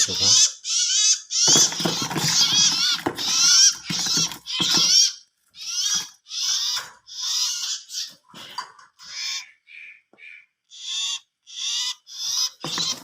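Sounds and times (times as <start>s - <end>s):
birds making harsh high calls: 0.0s - 13.0s.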